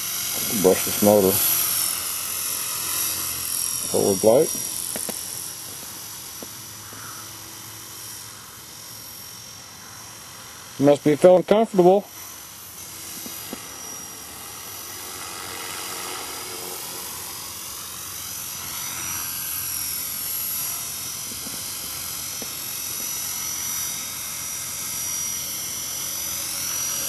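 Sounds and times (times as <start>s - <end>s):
electric motor whining: 0.0s - 11.2s, 11.8s - 27.0s
helicopter rotor noise: 0.0s - 27.0s.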